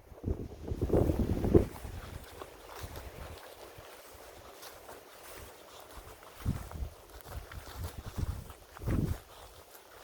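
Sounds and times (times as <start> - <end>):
wind rumble on microphone: 0.0 - 4.0, 5.2 - 9.6
footsteps on sand: 0.0 - 10.0.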